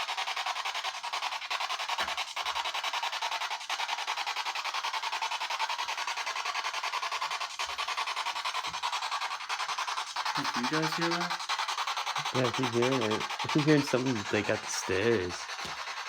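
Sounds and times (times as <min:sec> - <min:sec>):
pulsing rasping hiss: 0:00.0 - 0:03.3, 0:03.9 - 0:16.0.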